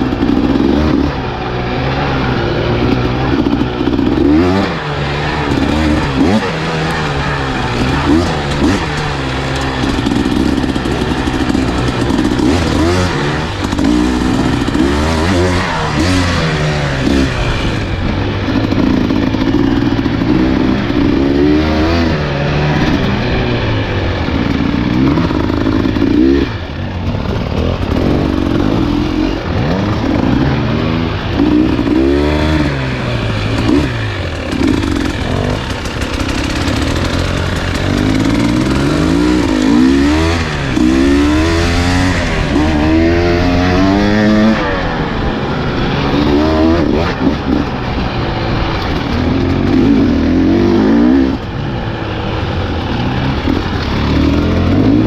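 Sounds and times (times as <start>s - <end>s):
dirt bike engine revving: 0.0s - 55.0s
rattle from riding: 0.0s - 55.0s.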